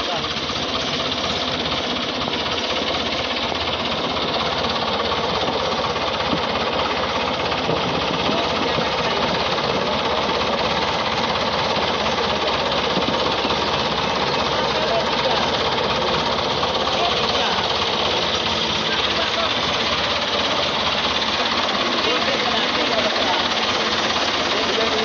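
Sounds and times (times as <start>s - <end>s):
tractor diesel engine knocking: 0.0s - 25.0s.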